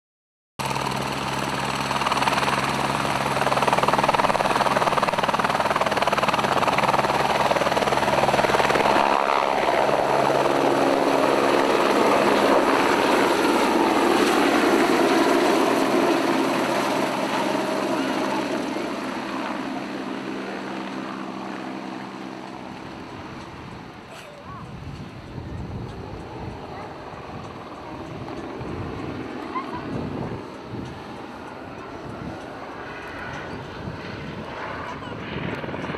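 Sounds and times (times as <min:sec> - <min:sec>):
helicopter turbine and rotor blades: 0:00.6 - 0:35.9.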